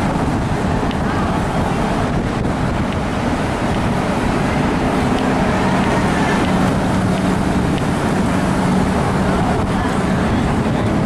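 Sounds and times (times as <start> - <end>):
low open-air rumble: 0.0 - 11.0.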